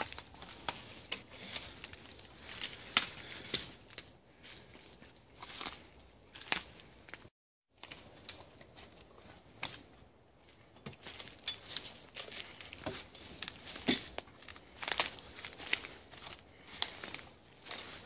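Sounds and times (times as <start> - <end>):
dry leaves crackling underfoot: 0.0 - 18.0.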